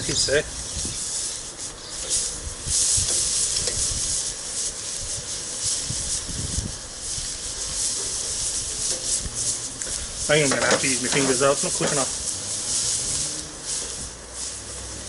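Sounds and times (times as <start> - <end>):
chicken sizzling on a grill: 0.0 - 15.0.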